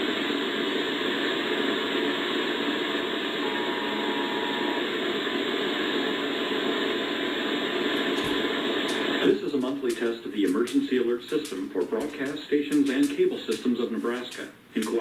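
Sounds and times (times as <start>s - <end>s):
static hiss: 0.0s - 15.0s.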